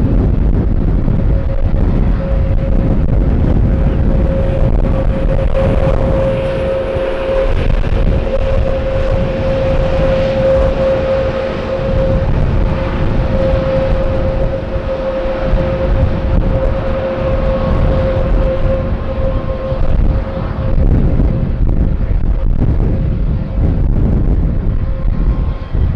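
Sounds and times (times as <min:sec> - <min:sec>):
jet airliner engines whining: 0:00.0 - 0:25.9.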